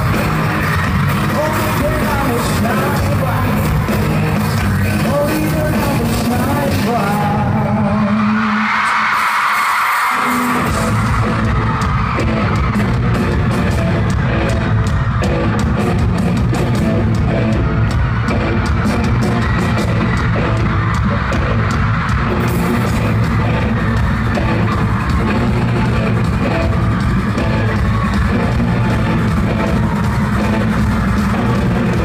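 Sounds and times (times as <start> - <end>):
crowd screaming: 0.0 - 32.0
live pop-rock band playing: 0.0 - 32.0.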